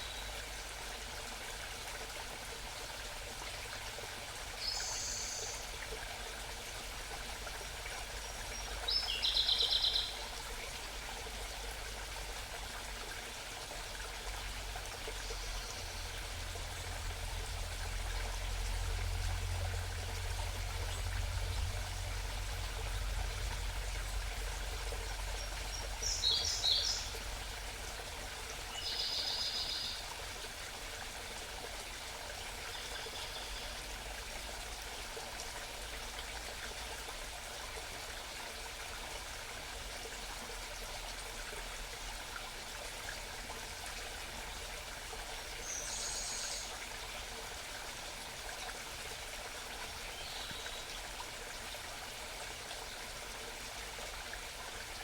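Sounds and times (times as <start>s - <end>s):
mountain stream trickling: 0.0s - 55.0s.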